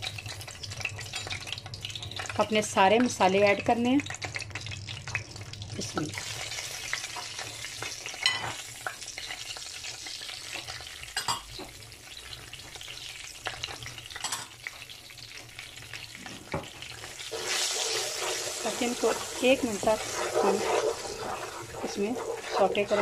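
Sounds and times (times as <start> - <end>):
spices sizzling in hot oil: 0.0 - 23.0.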